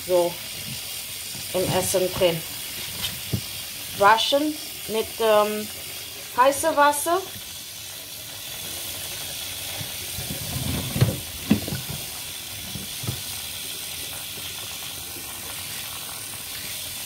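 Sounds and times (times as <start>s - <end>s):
hissing water or steam: 0.0s - 17.0s.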